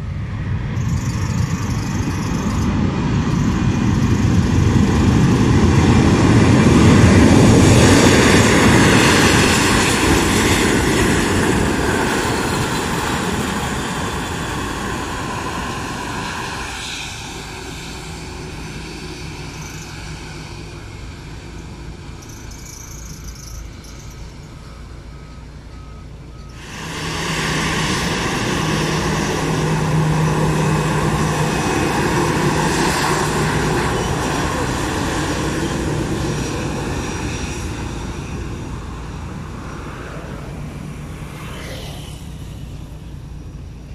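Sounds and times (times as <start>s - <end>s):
steady low hum: 0.0s - 41.2s
jet engines rushing: 0.0s - 43.9s.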